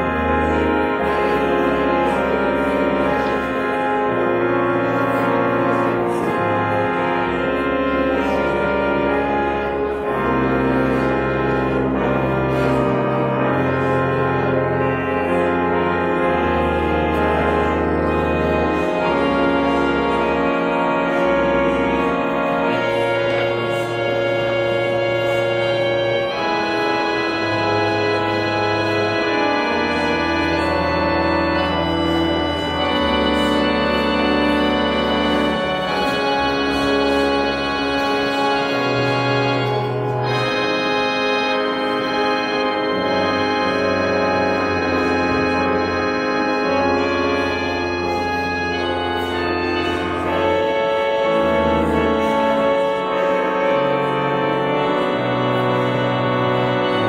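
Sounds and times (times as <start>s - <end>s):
organ playing slow chords: 0.0s - 57.0s.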